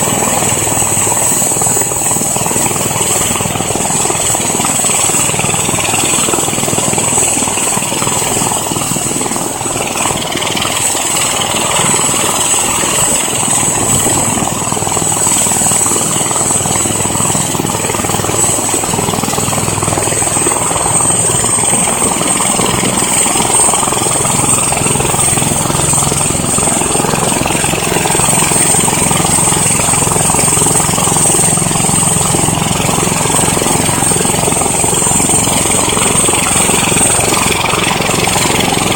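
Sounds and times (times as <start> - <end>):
helicopter rotor turning: 0.0 - 38.9
helicopter turbine whine: 0.0 - 38.9.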